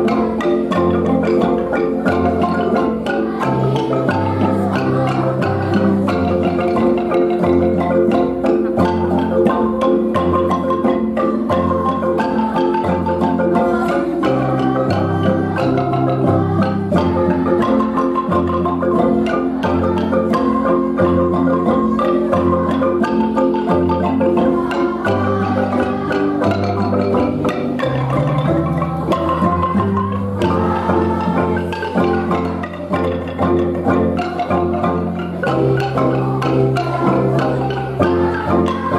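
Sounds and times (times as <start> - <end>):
bass xylophone notes: 0.0 - 38.9
wooden xylophones playing: 0.0 - 38.9.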